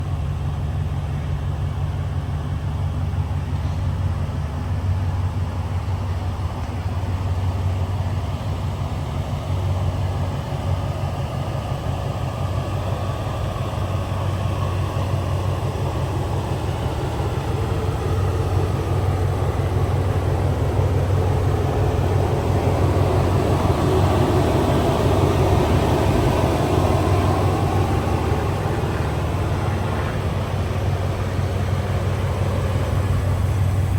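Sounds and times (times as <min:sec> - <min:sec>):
engine idling low rumble: 0:00.0 - 0:33.9.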